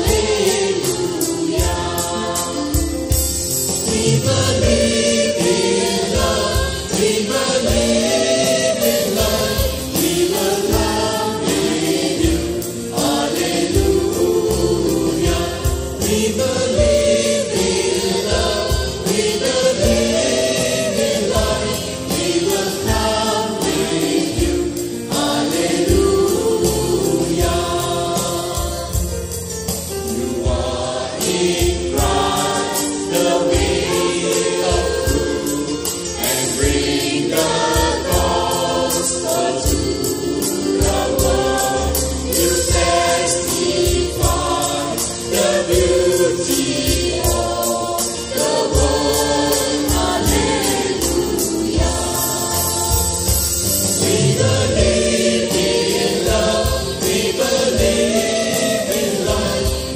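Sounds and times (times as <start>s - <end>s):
group singing worship song: 0.0s - 59.9s
instrumental accompaniment with beat: 0.0s - 59.9s.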